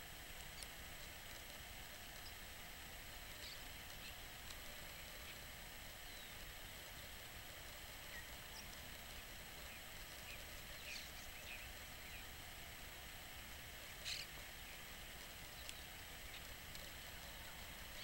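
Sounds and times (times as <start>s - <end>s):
outdoor hiss: 0.0s - 18.0s
small birds chirping: 0.4s - 0.8s, 2.0s - 18.0s.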